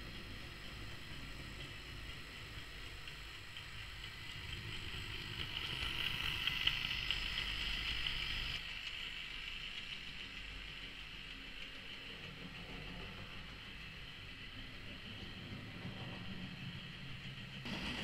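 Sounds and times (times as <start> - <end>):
model train motor whir: 0.0 - 15.0
model train wheels on rails: 0.0 - 18.0.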